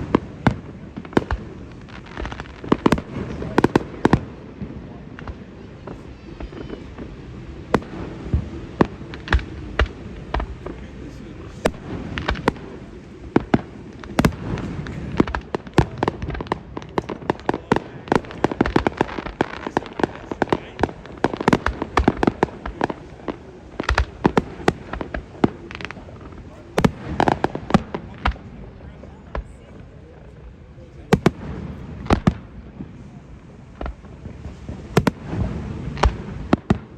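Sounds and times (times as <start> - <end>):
fireworks bangs and booms: 0.0 - 36.9.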